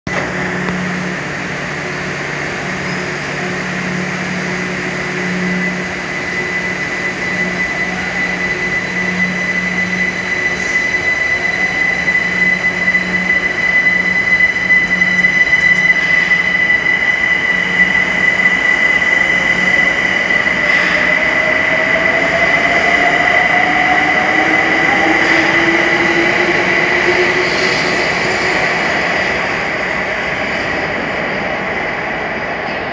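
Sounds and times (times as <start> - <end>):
electric train pulling away: 0.1 - 32.9
rail noise: 0.1 - 32.9
steady high-pitched tone: 0.2 - 32.9.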